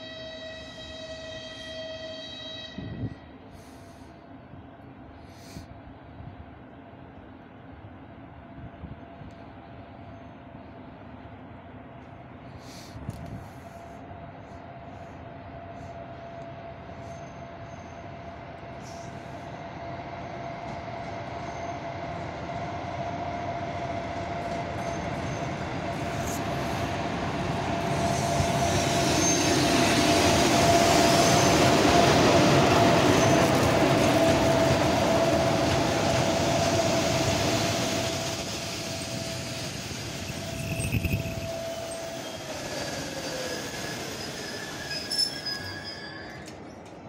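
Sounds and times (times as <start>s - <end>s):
train rolling into station: 0.0s - 47.0s.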